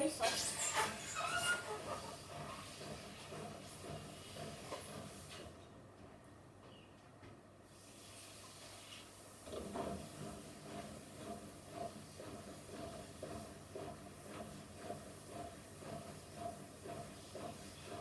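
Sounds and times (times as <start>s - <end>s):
rhythmic washing machine sound: 0.0s - 18.0s.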